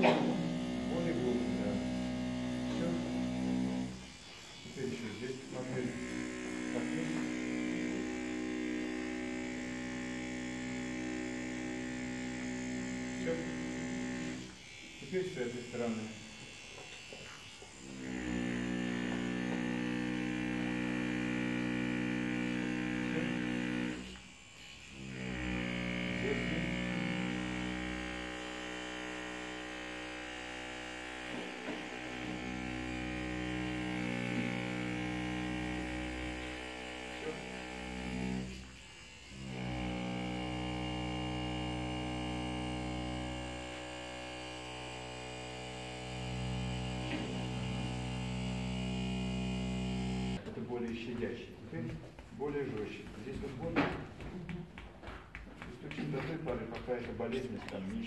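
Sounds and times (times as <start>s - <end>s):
electric percussion massager buzzing: 0.0s - 50.5s, 51.2s - 58.0s.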